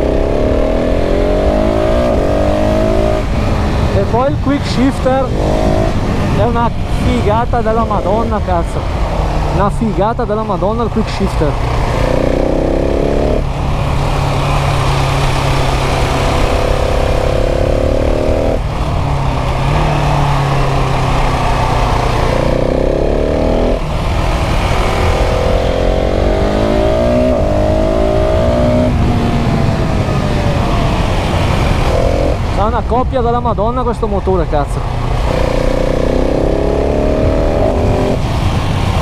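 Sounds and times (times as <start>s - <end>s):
motorcycle engine pulling hard: 0.0s - 39.0s
wind rushing past microphone: 0.0s - 39.0s.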